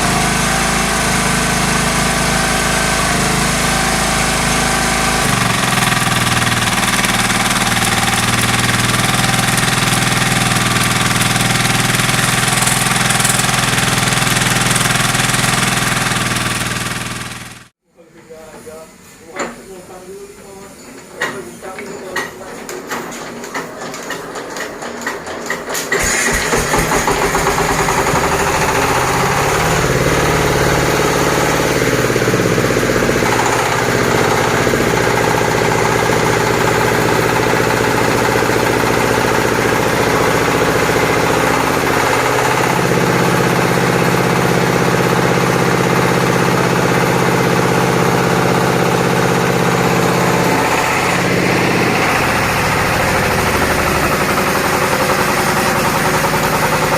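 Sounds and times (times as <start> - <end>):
petrol engine running: 0.0 - 17.7, 22.8 - 56.9
petrol engine cranking: 4.1 - 17.7, 22.0 - 56.9.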